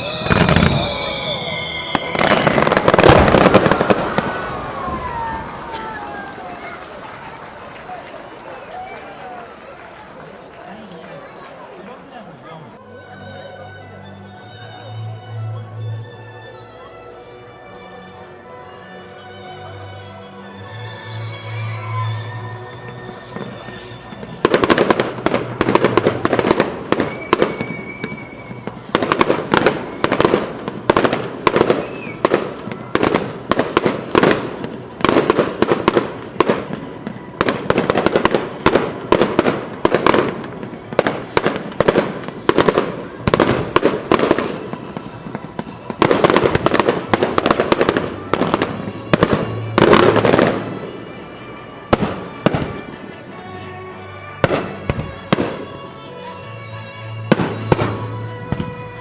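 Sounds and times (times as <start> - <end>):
fireworks bursting: 0.0 - 10.1, 21.4 - 59.0
music playing: 0.0 - 11.7, 12.5 - 59.0.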